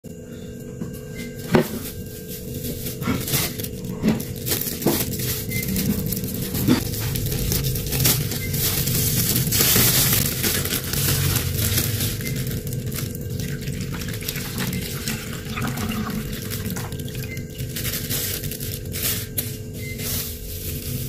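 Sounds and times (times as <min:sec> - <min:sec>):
plastic bags crinkling: 0:01.3 - 0:21.0.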